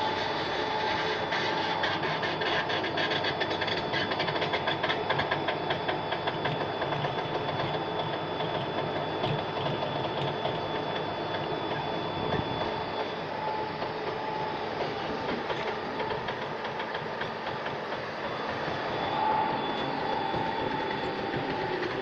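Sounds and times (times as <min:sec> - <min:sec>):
briquetting machine droning: 0:00.0 - 0:22.0
machine whine: 0:00.0 - 0:22.0.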